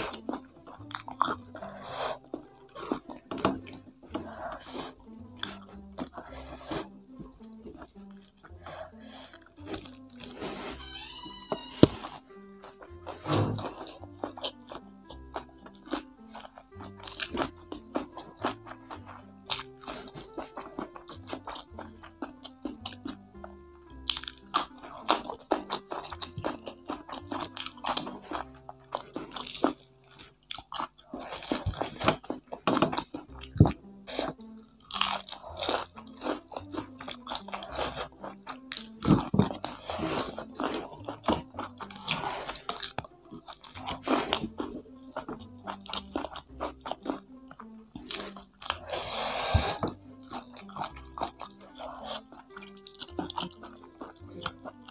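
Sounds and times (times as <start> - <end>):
crunchy chewing: 0.0 - 54.9
soft background music: 0.0 - 54.9.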